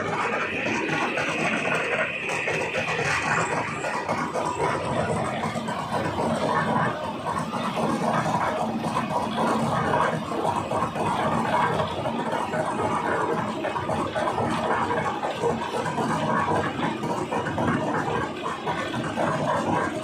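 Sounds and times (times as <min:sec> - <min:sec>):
transit mixer operating: 0:00.0 - 0:20.0.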